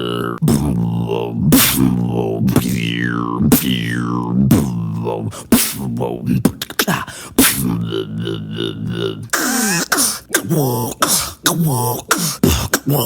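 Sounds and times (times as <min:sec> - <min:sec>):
beatboxer imitating didgeridoo drone: 0:00.0 - 0:13.0
mouth clicks and choppy vocal noises: 0:00.0 - 0:13.0.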